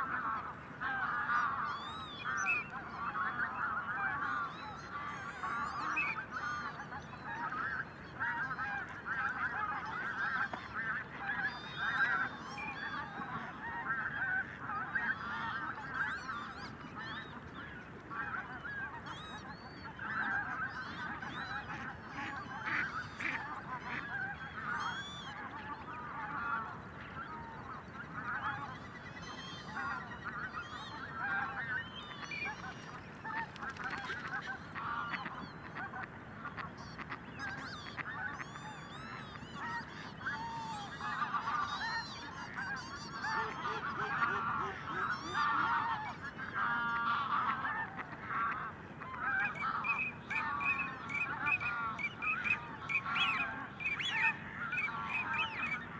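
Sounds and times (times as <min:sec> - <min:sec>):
geese calling: 0:00.0 - 0:55.9.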